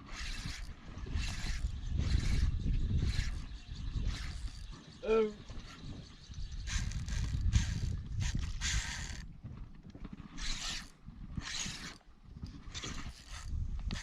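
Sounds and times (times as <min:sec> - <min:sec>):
fishing reel whirring: 0:00.0 - 0:09.3, 0:10.4 - 0:12.0, 0:12.7 - 0:14.0
wind on microphone: 0:00.0 - 0:14.0.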